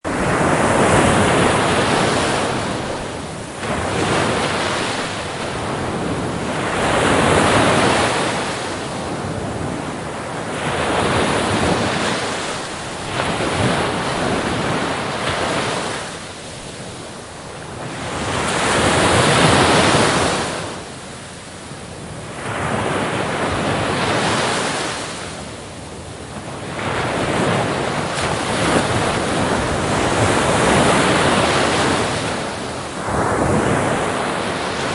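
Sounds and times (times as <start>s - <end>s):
sea waves breaking on shore: 0.0s - 34.9s
wind: 0.0s - 34.9s.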